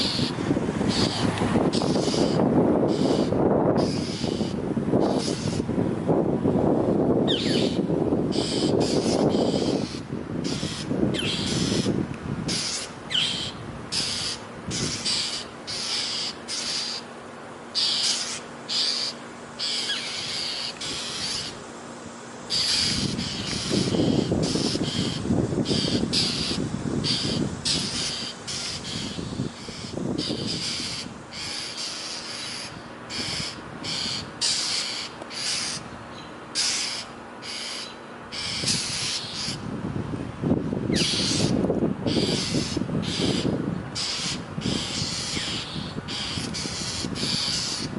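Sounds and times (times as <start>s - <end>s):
birds harsh alarm calls: 0.0s - 5.7s, 7.3s - 39.7s, 40.9s - 47.9s.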